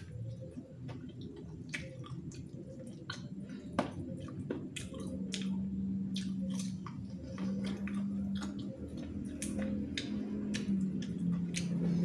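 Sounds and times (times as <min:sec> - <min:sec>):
chewing and sucking: 0:00.8 - 0:12.0.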